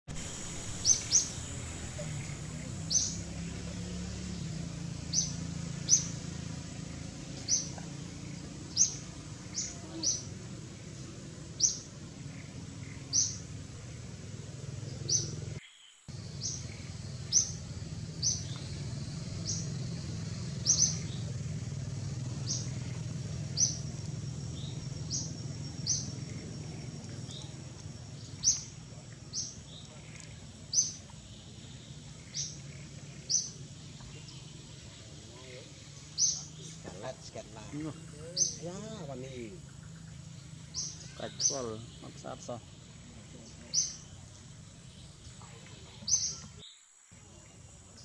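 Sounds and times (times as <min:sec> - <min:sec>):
bird chirping: 0:00.1 - 0:48.0
forest ambience: 0:00.1 - 0:48.0.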